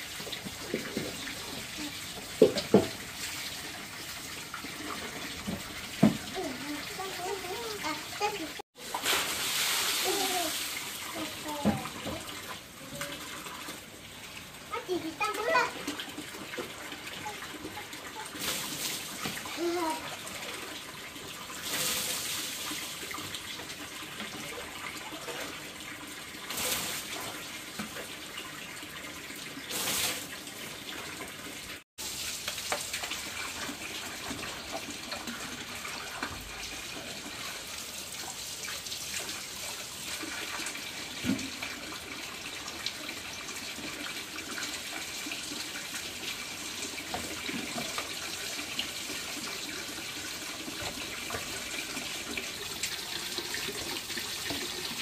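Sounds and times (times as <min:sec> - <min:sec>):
water running: 0:00.0 - 0:55.0
water splashes: 0:00.0 - 0:55.0.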